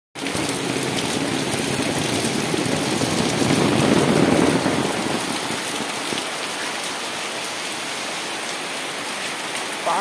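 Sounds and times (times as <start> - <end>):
heavy rain pouring: 0.2 - 10.0.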